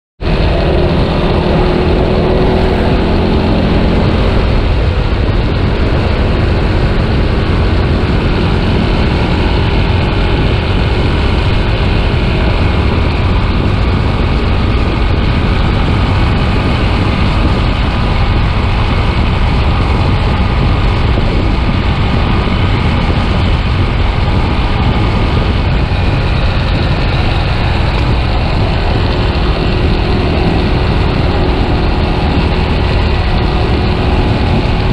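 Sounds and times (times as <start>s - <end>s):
motorcycle engine running: 0.2s - 34.9s
wind rushing on microphone: 0.2s - 34.9s.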